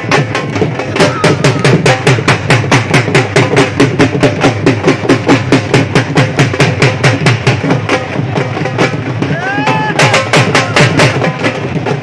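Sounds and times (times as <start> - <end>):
barrel drums beaten with sticks: 0.0 - 12.0.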